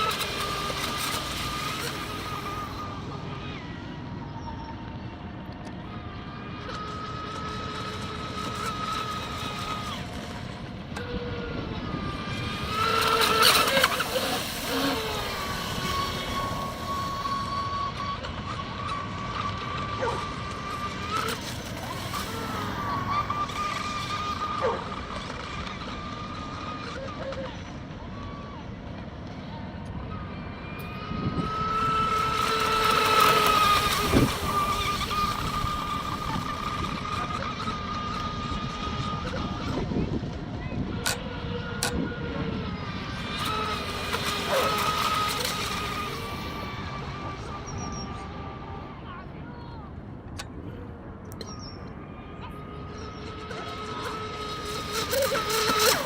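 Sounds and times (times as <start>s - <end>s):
electric motor high whine: 0.0s - 56.0s.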